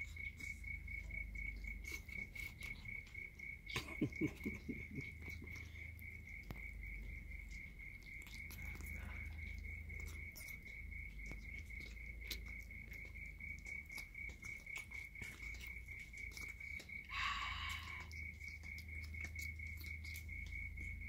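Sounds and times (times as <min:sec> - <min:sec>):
kittens chewing and licking: 0:00.0 - 0:21.0.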